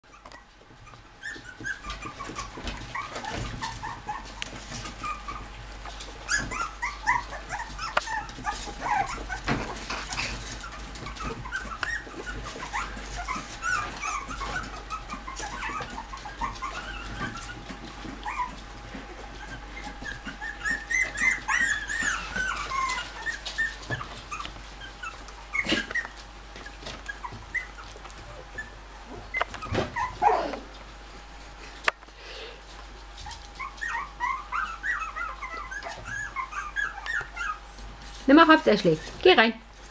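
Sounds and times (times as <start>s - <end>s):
puppies whimpering and yipping: 0.0s - 31.8s, 32.6s - 39.9s.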